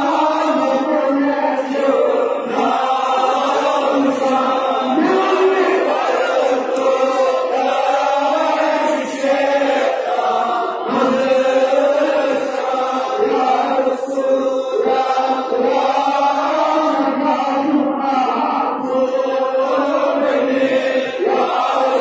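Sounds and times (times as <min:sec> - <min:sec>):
men chanting in unison: 0:00.0 - 0:22.0.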